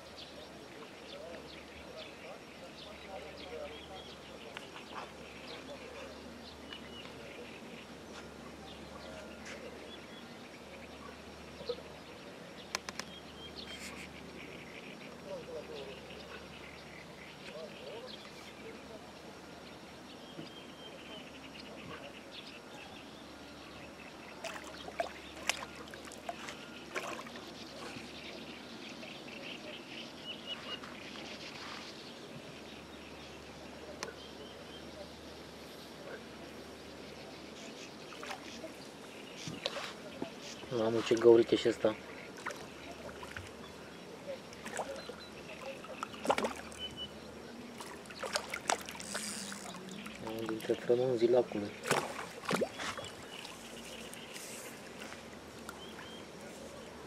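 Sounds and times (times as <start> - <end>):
bird calls: 0.0 - 57.0
outdoor background noise: 0.0 - 57.0.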